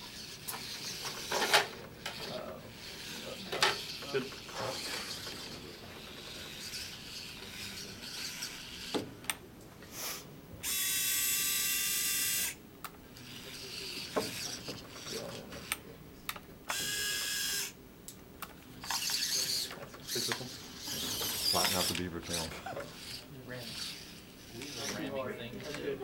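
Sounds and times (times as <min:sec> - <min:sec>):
servo motors whining: 0:00.1 - 0:09.1, 0:10.6 - 0:12.6, 0:13.2 - 0:15.8, 0:16.7 - 0:17.8, 0:18.8 - 0:25.9.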